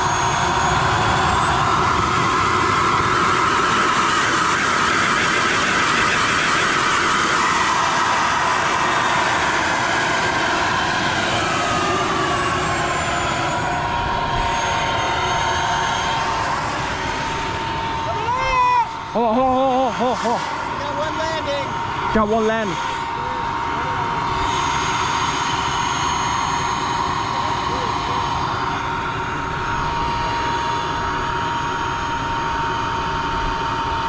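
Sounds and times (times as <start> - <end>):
jet turbine engine whining: 0.0 - 34.0.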